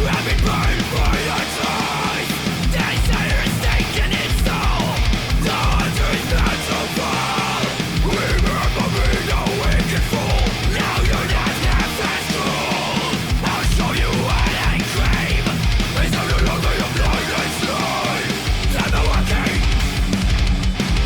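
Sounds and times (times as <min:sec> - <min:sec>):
heavy metal song: 0:00.0 - 0:21.0.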